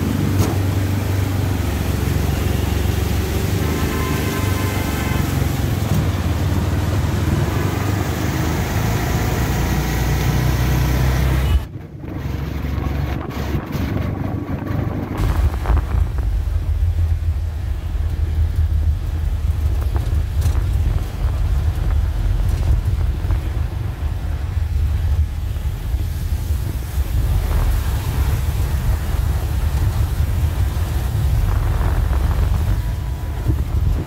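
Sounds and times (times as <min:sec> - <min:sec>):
auto-rickshaw engine running: 0:00.0 - 0:34.0
road rumble: 0:00.0 - 0:34.0.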